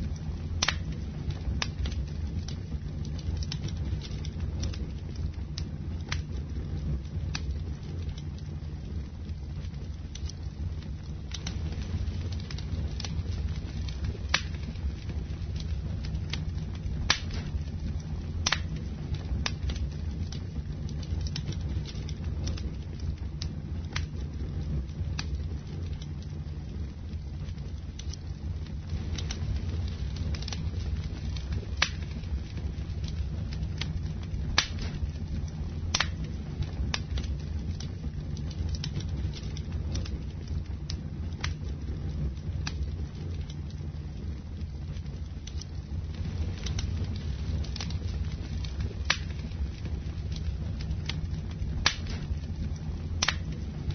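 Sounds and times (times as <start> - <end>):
burning wood crackling and popping: 0.0 - 53.9
low rumble of flames: 0.0 - 53.9.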